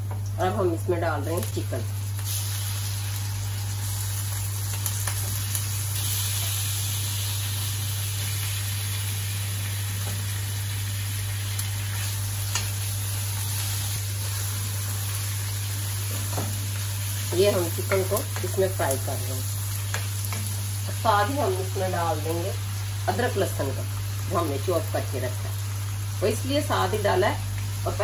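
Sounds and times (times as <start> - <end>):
chicken sizzling in hot oil: 1.0 - 28.0.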